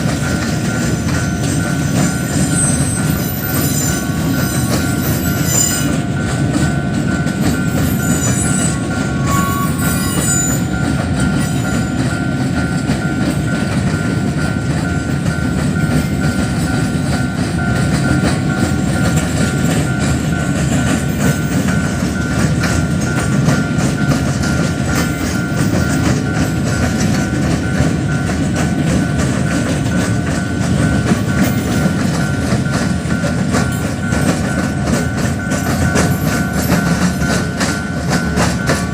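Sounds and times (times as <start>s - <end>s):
freight train wagons rumbling: 0.0s - 38.9s
steady high tone: 0.0s - 38.9s
wheels clicking over rails: 0.0s - 38.9s.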